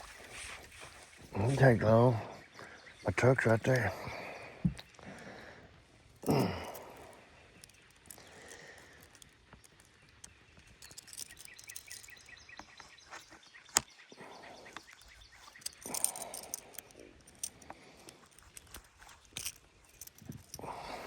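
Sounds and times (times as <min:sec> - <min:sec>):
songbird chirping: 0:00.0 - 0:21.0.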